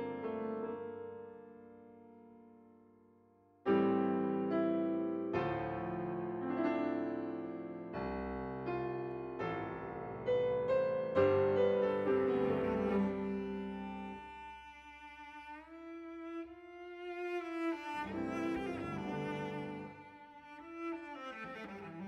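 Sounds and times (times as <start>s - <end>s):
solo piano music: 3.6s - 22.0s.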